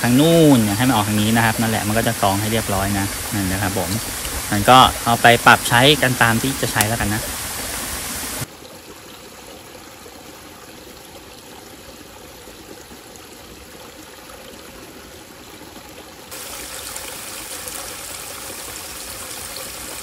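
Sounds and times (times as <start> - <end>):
stream running: 0.0 - 20.0.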